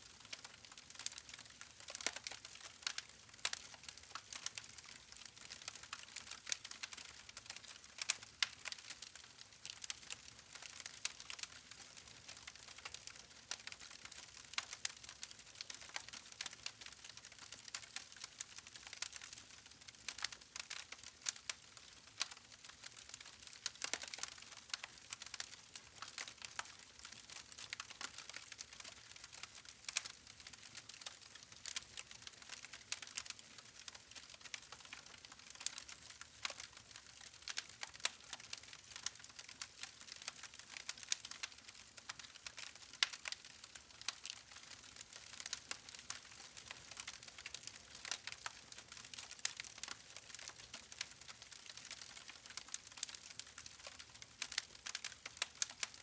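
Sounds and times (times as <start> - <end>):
wood fire crackling: 0.2 - 56.0.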